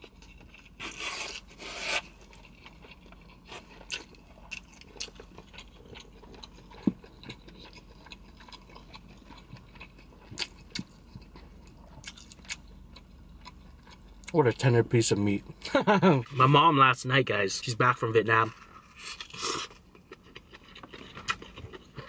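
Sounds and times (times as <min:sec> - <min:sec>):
person chewing: 0:00.0 - 0:14.7, 0:18.5 - 0:22.0.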